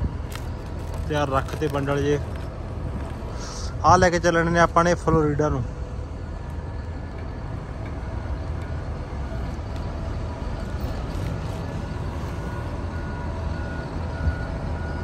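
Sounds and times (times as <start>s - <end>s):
forklift engine rumble: 0.0s - 15.0s.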